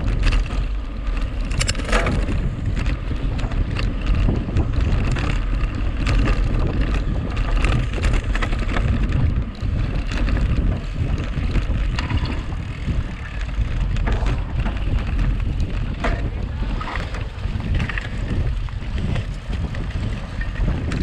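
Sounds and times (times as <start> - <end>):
bike rattling and knocking: 0.0 - 21.0
bike tyre noise: 0.0 - 21.0
wind buffeting microphone: 0.0 - 21.0.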